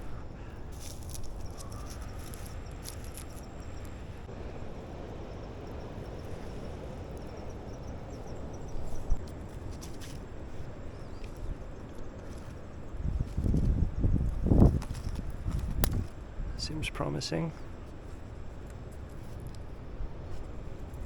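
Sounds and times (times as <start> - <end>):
insects chirping: 0.0 - 21.0
steady low rumble: 0.0 - 21.0.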